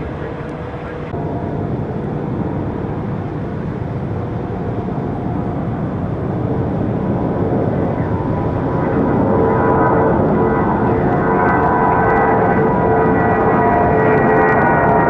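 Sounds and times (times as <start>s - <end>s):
jet engines with faint whine: 0.0s - 15.0s.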